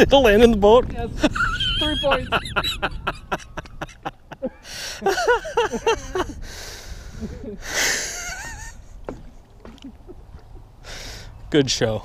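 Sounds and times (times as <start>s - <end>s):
men laughing: 1.1s - 11.2s.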